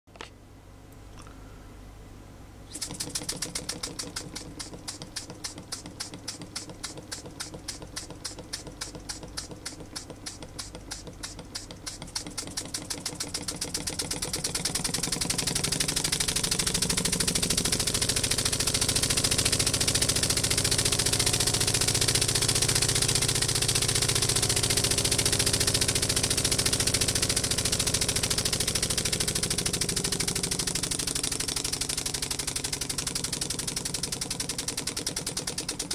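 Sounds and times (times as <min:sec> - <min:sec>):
model air engine chuffing: 0:02.7 - 0:35.9.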